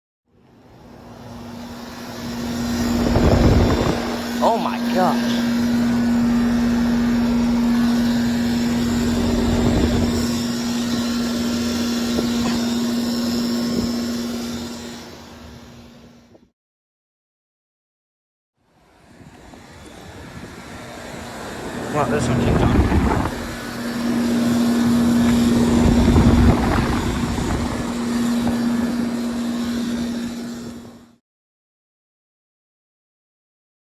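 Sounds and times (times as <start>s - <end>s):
fan rushing: 0.4s - 16.3s, 18.8s - 31.2s
air conditioner electrical buzz: 0.6s - 16.3s, 18.9s - 31.2s.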